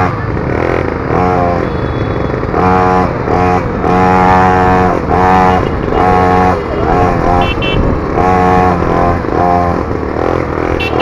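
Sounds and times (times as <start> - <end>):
mini motorbike engine revving: 0.0 - 11.0.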